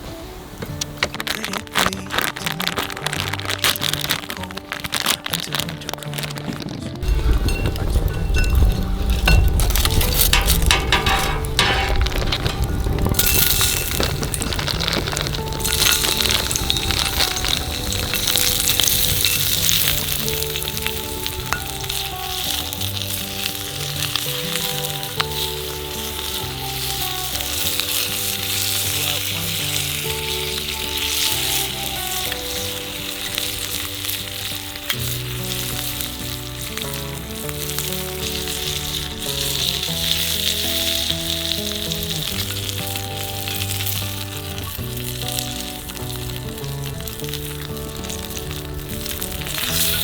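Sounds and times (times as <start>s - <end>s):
background music: 0.0s - 50.0s
food sizzling in a pan: 0.0s - 50.0s.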